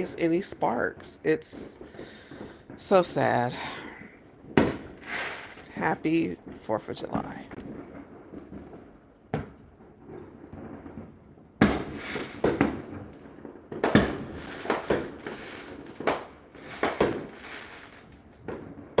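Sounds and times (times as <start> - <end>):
fireworks sharp bangs: 0.0 - 19.0.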